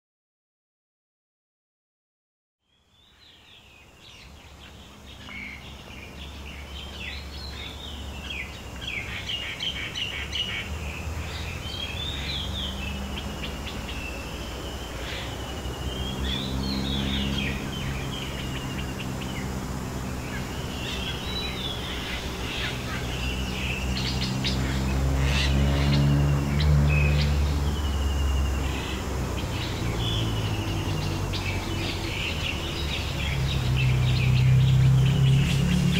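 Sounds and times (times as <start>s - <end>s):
birds chirping and trilling: 2.6s - 35.9s.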